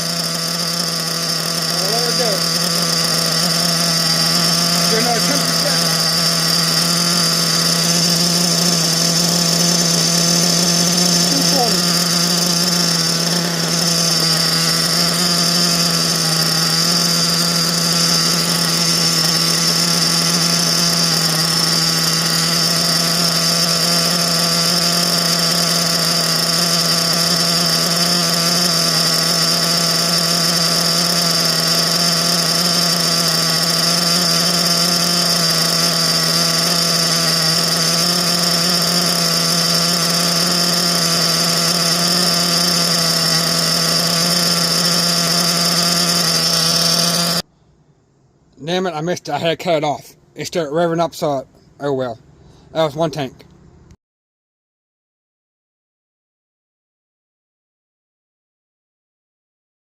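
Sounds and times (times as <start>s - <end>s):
model engine buzzing: 0.0s - 47.5s, 48.6s - 54.0s.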